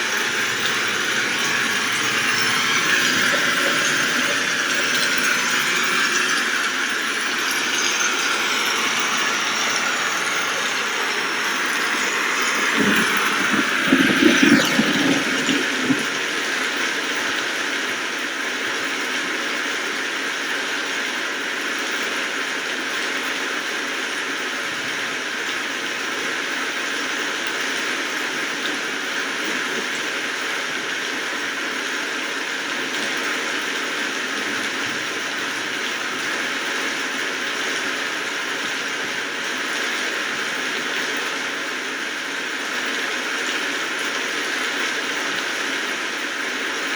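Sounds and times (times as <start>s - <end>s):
steady rain hiss: 0.0s - 20.8s, 28.2s - 46.9s.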